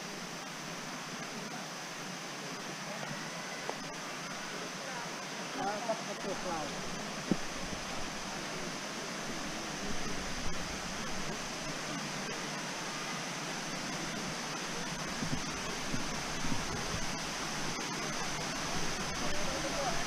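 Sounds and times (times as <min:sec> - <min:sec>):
faint voices: 0:00.0 - 0:20.0
waterfall rushing: 0:00.0 - 0:20.0.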